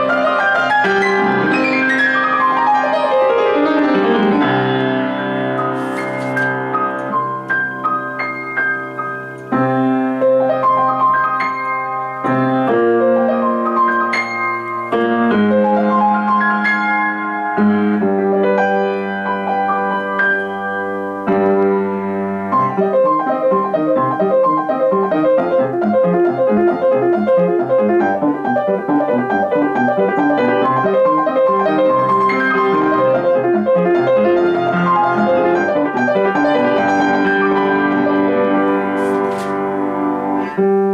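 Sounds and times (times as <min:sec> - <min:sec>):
solo piano piece: 0:00.0 - 0:40.9.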